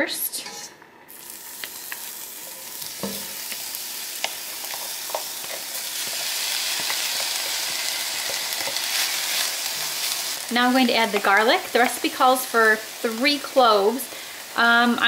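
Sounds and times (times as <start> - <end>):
onion sizzling in oil: 1.1 - 15.0.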